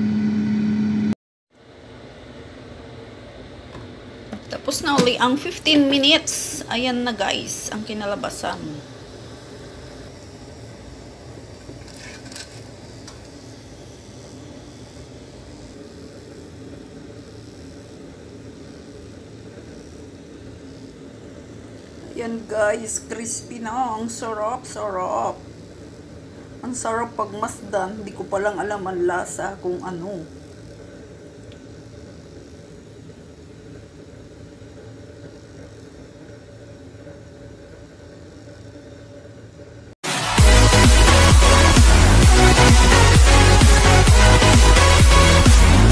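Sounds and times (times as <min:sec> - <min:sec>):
small fan motor humming: 0:00.0 - 0:45.9.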